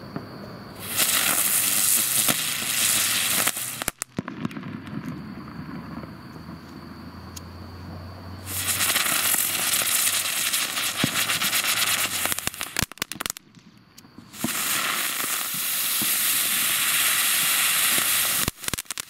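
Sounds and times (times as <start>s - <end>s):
firework sharp cracks: 0.1s - 6.6s, 8.4s - 19.0s
firework crackling hiss: 0.7s - 7.0s, 8.4s - 19.0s.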